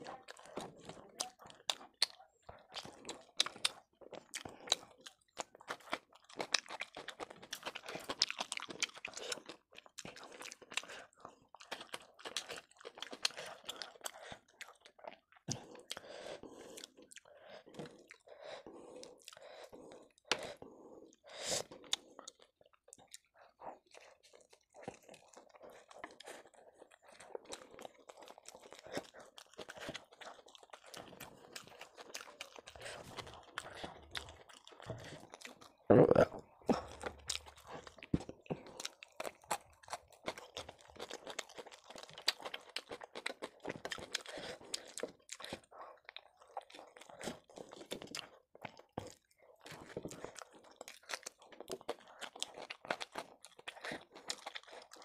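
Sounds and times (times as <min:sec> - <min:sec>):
person chewing wet mouth sounds: 0:00.0 - 0:55.0.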